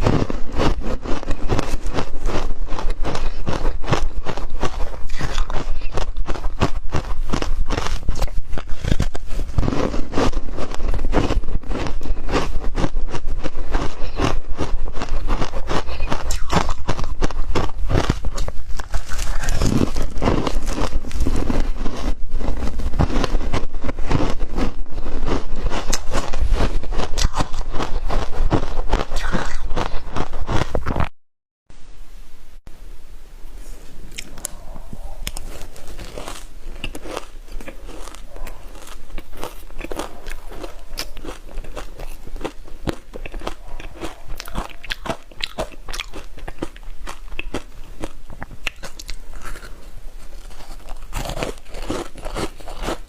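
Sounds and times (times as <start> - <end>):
chewing ice: 0.0 - 31.1, 34.1 - 53.0.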